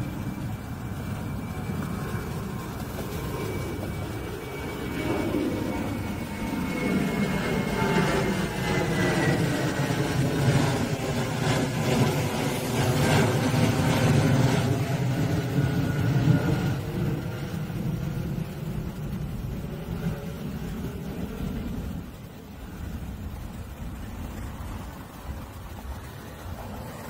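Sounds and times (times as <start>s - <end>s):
jet engine roar: 0.0s - 27.0s
jet whine sliding down: 0.0s - 27.0s.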